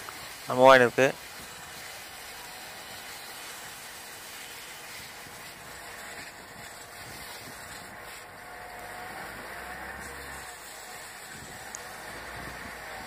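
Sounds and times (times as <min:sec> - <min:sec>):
abrasive sheet scraping brake disc: 0:01.3 - 0:13.0.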